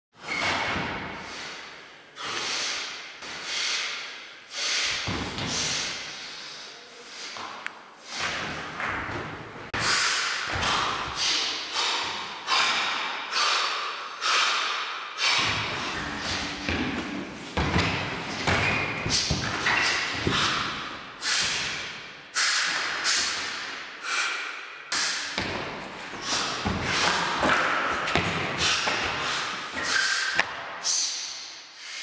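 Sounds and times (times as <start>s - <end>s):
rope swishing in a bare room: 0.2s - 32.0s.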